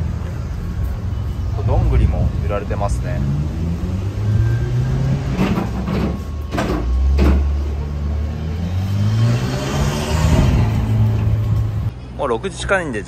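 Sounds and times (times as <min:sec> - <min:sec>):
vehicle engine humming and revving: 0:00.0 - 0:12.0.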